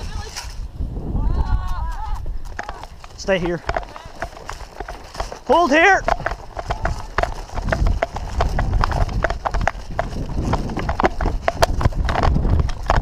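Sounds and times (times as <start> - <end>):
low rumble of movement: 0.0 - 13.0
running footsteps on grass: 1.6 - 13.0
gear rattling: 2.4 - 13.0.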